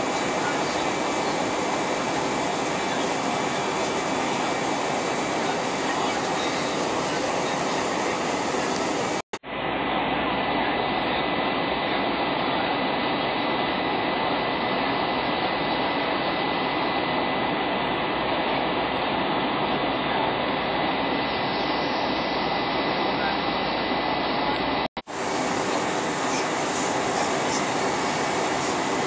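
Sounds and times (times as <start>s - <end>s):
jet engine cabin roar: 0.0s - 29.0s
thin high whine: 0.0s - 29.0s.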